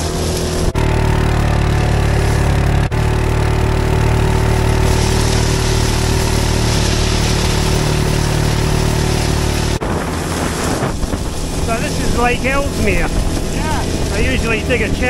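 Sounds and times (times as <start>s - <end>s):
tyres rumbling on stones: 0.0s - 15.0s
vehicle engine running: 0.0s - 15.0s
wind: 0.0s - 15.0s.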